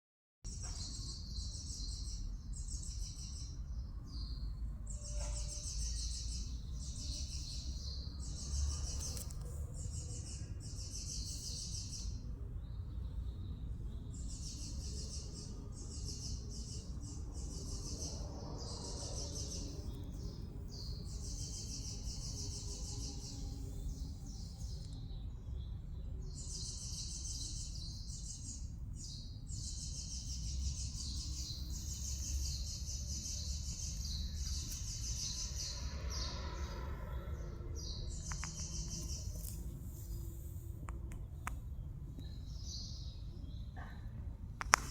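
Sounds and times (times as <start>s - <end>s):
small birds chirping: 0.5s - 44.9s
steady low rumble: 6.0s - 44.8s.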